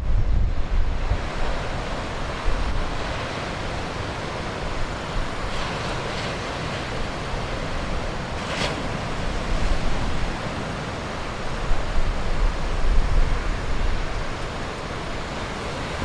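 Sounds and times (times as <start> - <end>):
waves breaking in a roar: 0.0 - 16.0
wind buffeting microphone: 0.0 - 16.0.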